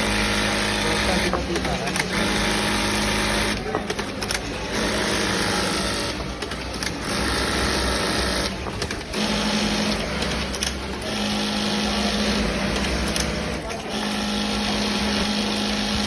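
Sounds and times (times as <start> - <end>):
sewing machine whirring: 0.0 - 16.0.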